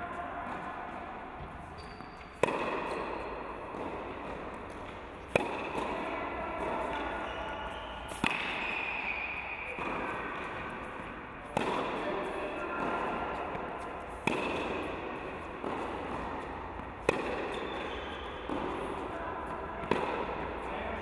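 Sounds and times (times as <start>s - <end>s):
tennis racket hitting ball: 0.2s - 21.0s.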